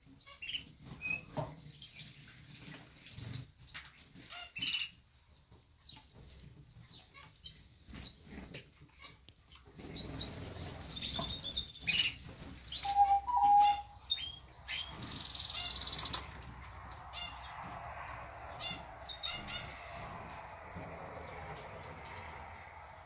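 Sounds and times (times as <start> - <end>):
canaries chirping: 0.0 - 5.0, 5.8 - 23.0.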